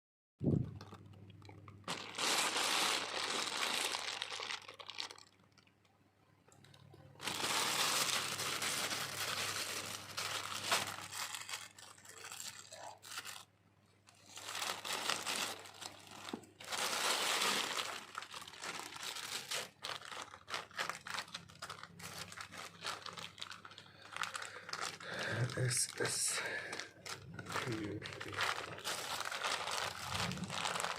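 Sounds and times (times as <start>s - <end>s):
packaging crinkling and tearing: 0.5s - 5.9s, 6.5s - 30.9s.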